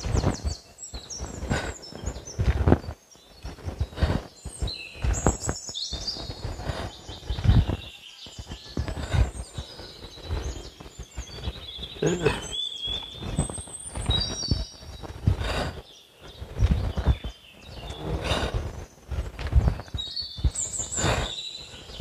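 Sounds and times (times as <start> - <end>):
birds chirping and trilling: 0.0 - 22.0.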